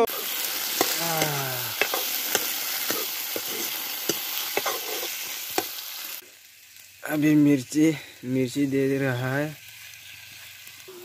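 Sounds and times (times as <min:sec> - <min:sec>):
food sizzling in wok: 0:00.0 - 0:11.0.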